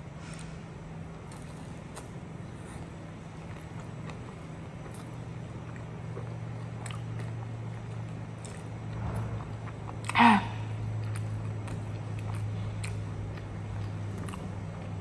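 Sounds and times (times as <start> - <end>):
steady low hum: 0.0 - 15.0
chewing crunchy fried food: 0.3 - 15.0.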